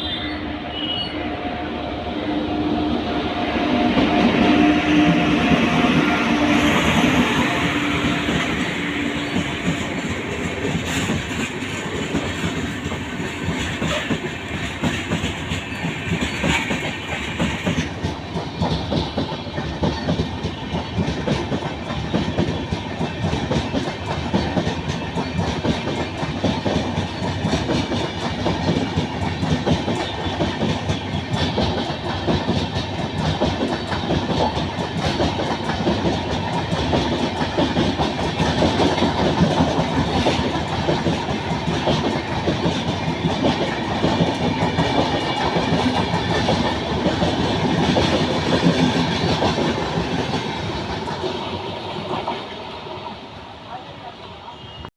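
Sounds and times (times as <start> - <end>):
train wheels clattering: 3.6 - 53.2.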